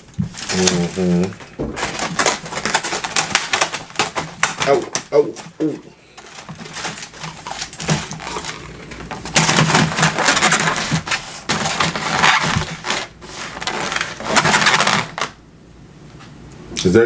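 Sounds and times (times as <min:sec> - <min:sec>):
foam boxes creaking and crackling: 0:00.0 - 0:15.4.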